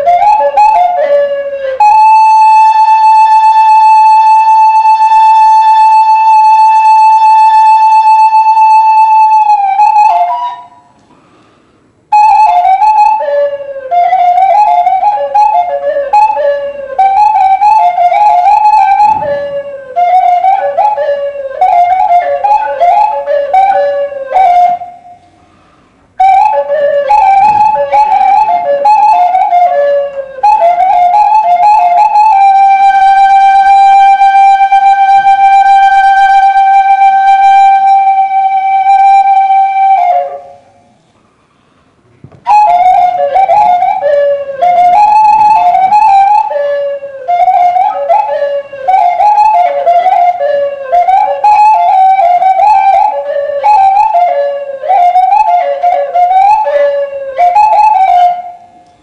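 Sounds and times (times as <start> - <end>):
bamboo flute playing: 0.0 - 11.0, 11.9 - 41.1, 42.3 - 59.0.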